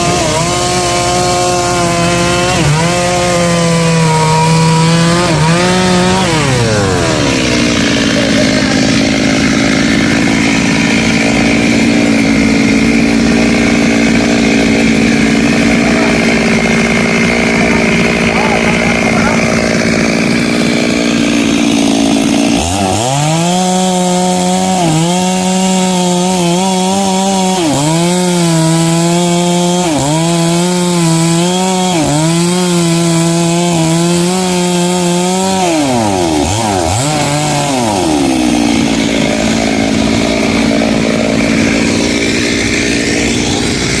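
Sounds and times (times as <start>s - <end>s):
chainsaw cutting wood: 0.0s - 44.0s.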